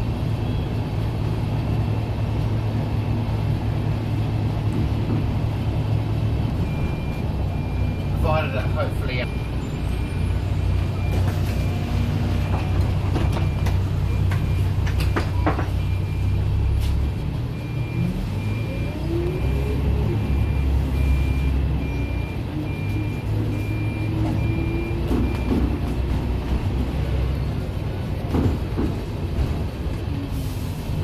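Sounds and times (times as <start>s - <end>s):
bus engine rumble and whine: 0.0s - 31.0s.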